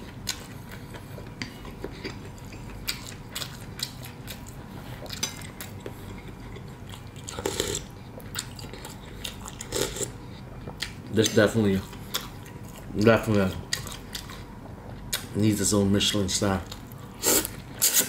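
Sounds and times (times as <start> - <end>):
chewing and mouth sounds: 0.0 - 15.3.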